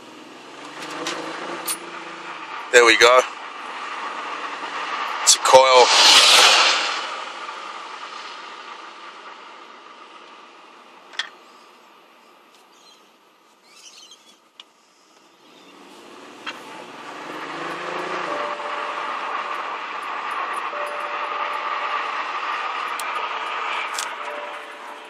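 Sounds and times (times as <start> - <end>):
car engine running: 0.0 - 13.5, 14.6 - 25.0.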